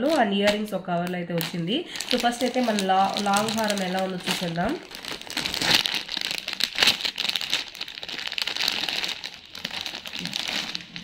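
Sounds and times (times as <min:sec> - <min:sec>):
plastic cover crinkling: 0:00.0 - 0:11.0.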